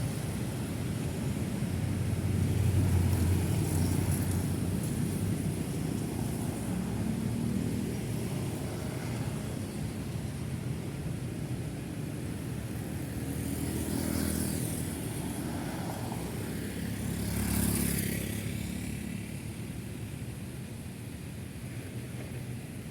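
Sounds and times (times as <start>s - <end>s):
road traffic rumble: 0.0s - 22.9s.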